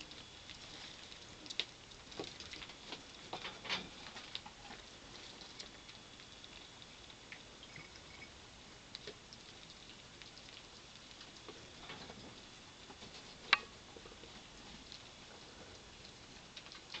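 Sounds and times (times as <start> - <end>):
small clicks and ticks: 0.0 - 8.3, 8.9 - 17.0
rats eating: 0.0 - 17.0.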